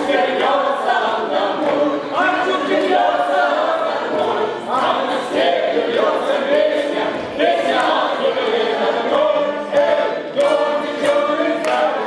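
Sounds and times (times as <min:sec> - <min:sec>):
choir singing folk song: 0:00.0 - 0:12.0.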